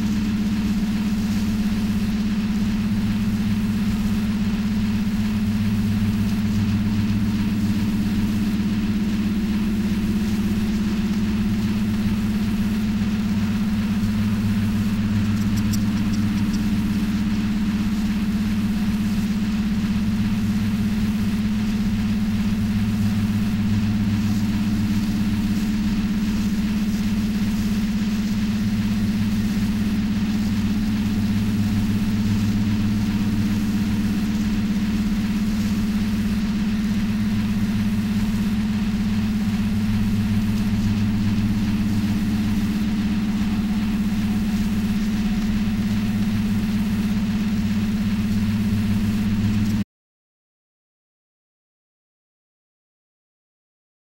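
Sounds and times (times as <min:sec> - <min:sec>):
low electronic drone: 0:00.0 - 0:49.8.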